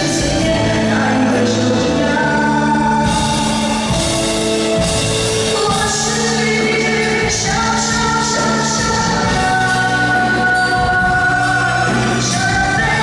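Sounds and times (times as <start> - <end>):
live band playing pop: 0.0 - 13.0
person singing long notes: 0.0 - 13.0.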